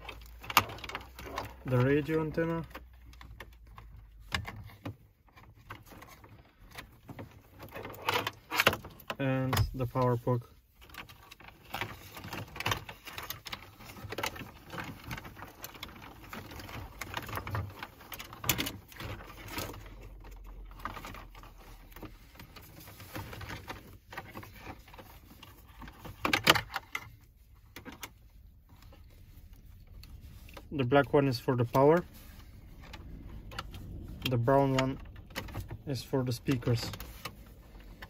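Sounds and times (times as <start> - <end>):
cables rustling: 0.0 - 38.0.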